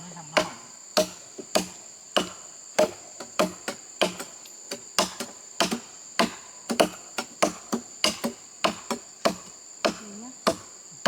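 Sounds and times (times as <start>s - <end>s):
insects droning: 0.0s - 11.0s
chopping wood: 0.4s - 10.7s.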